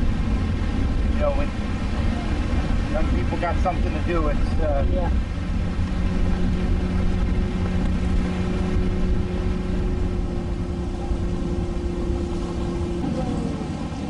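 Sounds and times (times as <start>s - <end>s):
boat engine running: 0.0s - 14.0s
wind rumbling on microphone: 0.0s - 14.0s.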